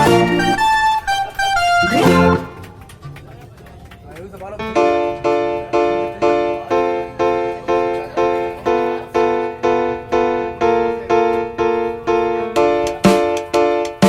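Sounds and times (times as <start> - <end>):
keyboard chords: 0.0 - 2.9, 4.6 - 14.0.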